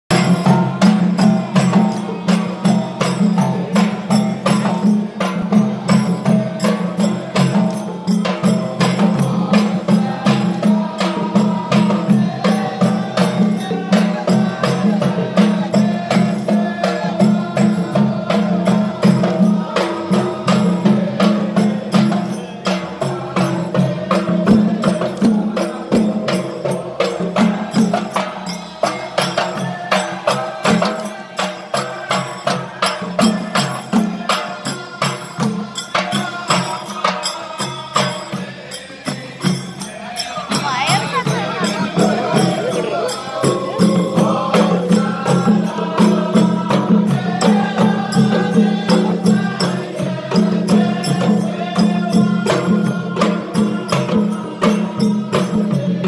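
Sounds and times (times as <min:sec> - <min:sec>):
men chanting: 0:00.1 - 0:56.0.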